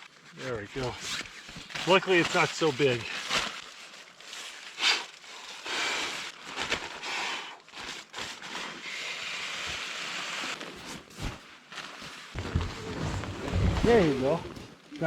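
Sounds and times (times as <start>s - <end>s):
nylon gear rustling: 0.0s - 15.0s.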